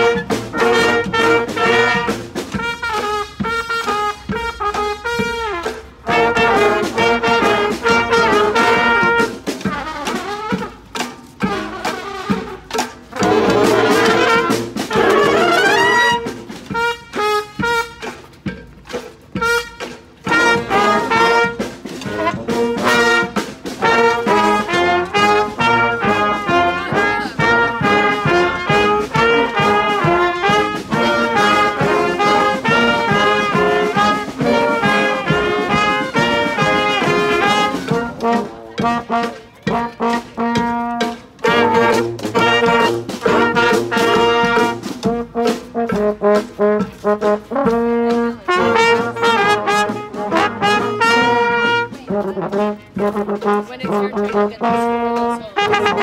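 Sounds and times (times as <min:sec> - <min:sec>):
brass band with trombones: 0:00.0 - 0:56.0
steady percussion hits: 0:00.0 - 0:56.0.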